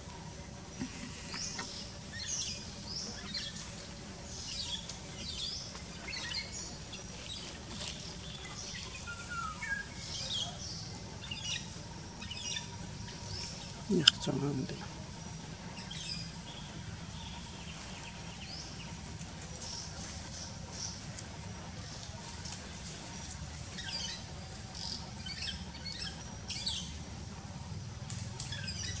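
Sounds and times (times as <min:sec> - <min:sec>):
birds chirping: 0:00.0 - 0:29.0
low background rumble: 0:00.0 - 0:29.0.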